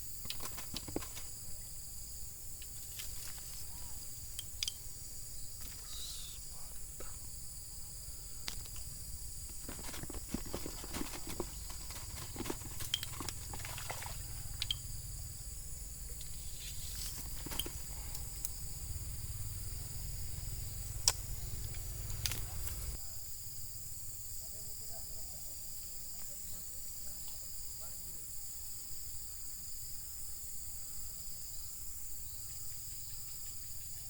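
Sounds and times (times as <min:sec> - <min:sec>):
insects hissing: 0:00.0 - 0:34.0.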